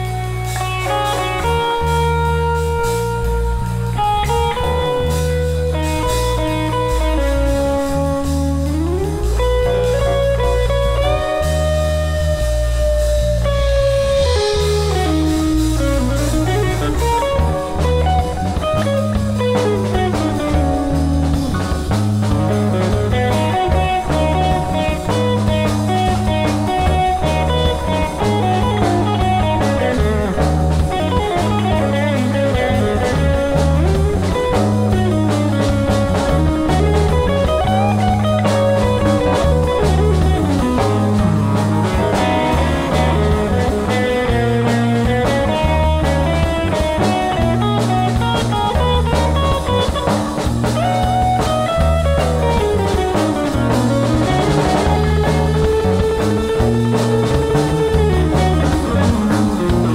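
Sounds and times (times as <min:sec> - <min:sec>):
drum kit: 0:00.0 - 0:59.9
electric bass: 0:00.0 - 0:59.9
electric guitar solo: 0:00.0 - 0:59.9.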